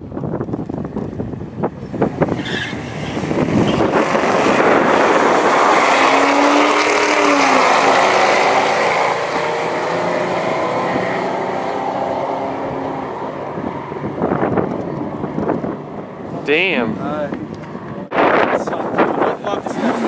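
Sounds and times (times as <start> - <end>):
drag cars revving and accelerating: 1.8 - 20.0.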